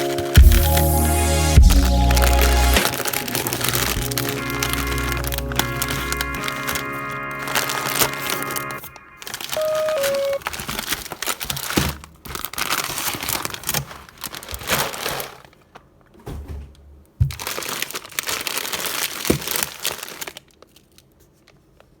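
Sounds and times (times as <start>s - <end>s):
packaging crinkling: 1.8s - 15.9s, 17.2s - 22.0s.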